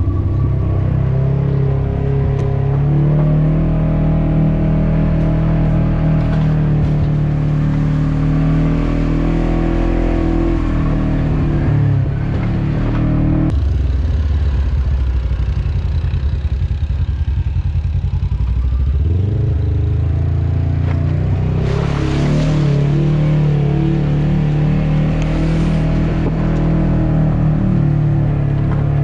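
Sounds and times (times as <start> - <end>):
atv engine running: 0.0 - 22.1, 22.7 - 29.0.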